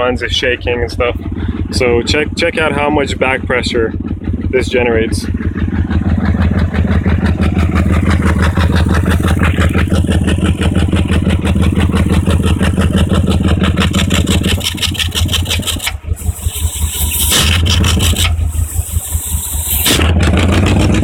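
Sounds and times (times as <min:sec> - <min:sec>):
car engine idling with exhaust chuffing: 0:00.0 - 0:21.0.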